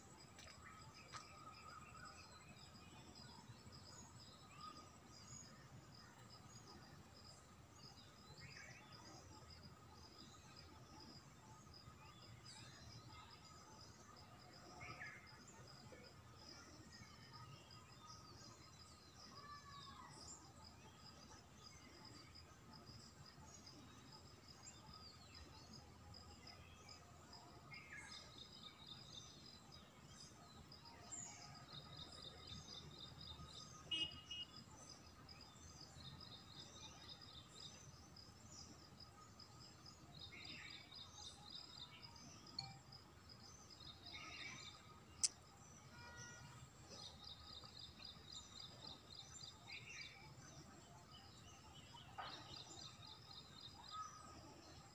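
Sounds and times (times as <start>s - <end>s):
thin insect drone: 0.0s - 54.9s
small birds chirping and trilling: 0.3s - 54.9s.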